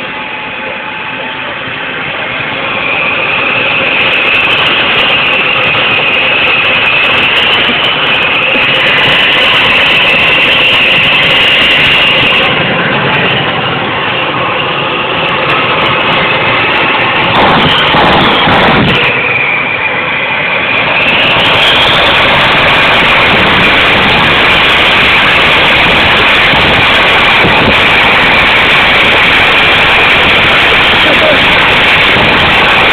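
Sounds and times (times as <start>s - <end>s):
jet engine rushing and whining: 0.0s - 32.9s.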